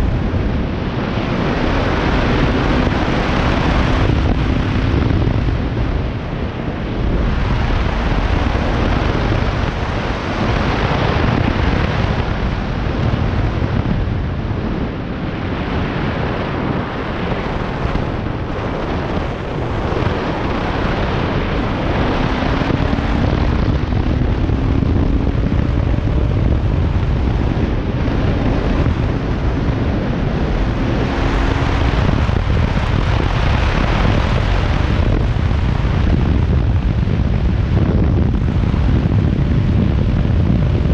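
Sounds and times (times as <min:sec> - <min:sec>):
motorcycle engine running: 0:00.0 - 0:14.8, 0:17.6 - 0:40.9
wind buffeting microphone: 0:00.0 - 0:40.9.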